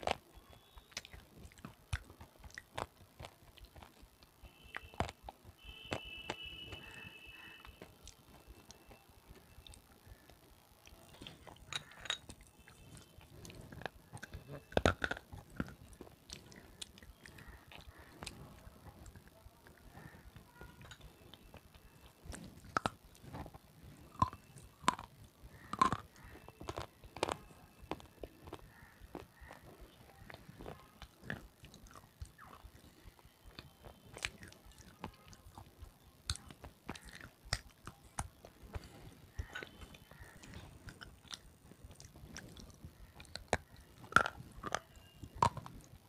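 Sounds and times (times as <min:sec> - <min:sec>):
person chewing crunchy food: 0:00.0 - 0:46.0.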